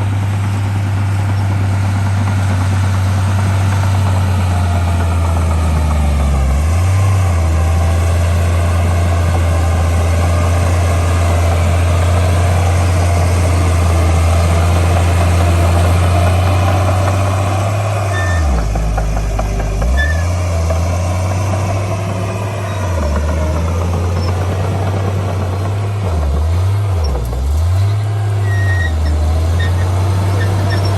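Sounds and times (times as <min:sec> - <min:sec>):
heavy diesel engine running: 0:00.0 - 0:30.9.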